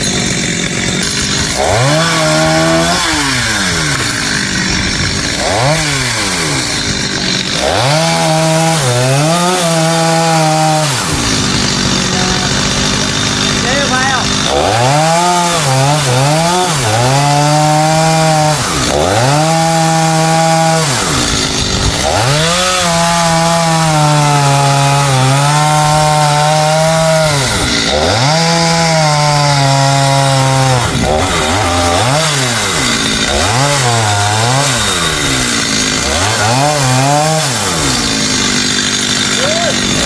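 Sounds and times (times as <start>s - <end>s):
chainsaw cutting a tree: 0.0s - 40.0s.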